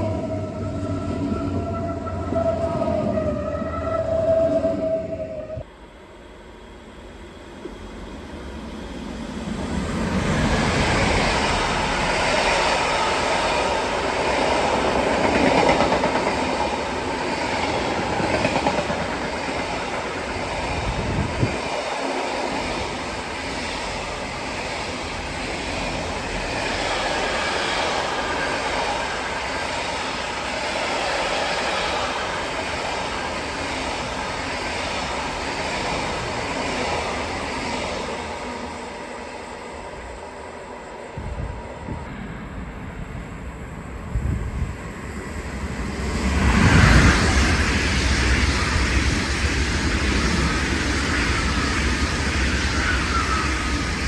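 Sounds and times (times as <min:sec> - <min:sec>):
train wheels rumbling on rails: 0:07.0 - 0:54.0.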